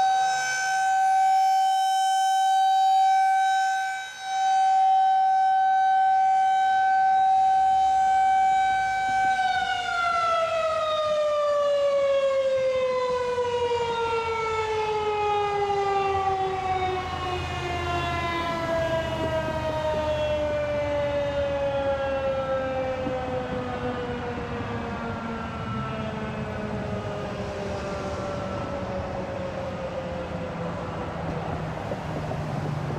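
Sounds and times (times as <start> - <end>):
warning siren winding down: 0.0 - 32.9.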